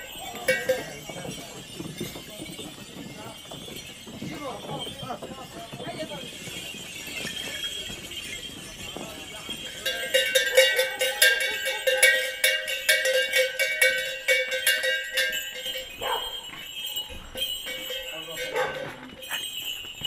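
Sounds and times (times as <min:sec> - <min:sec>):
metal bells jangling: 0:00.0 - 0:20.0.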